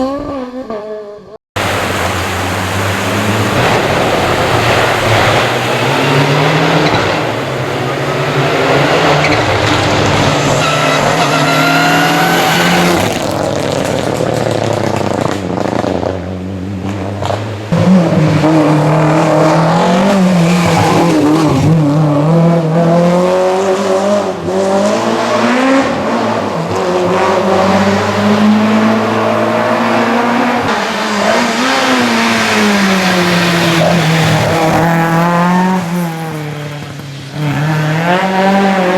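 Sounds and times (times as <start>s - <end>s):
rally car engines accelerating: 0.0s - 38.9s.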